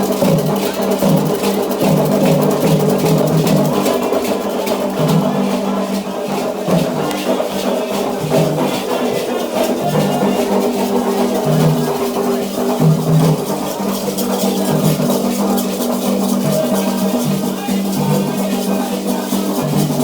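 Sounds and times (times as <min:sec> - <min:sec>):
drumming and percussion: 0:00.0 - 0:20.0.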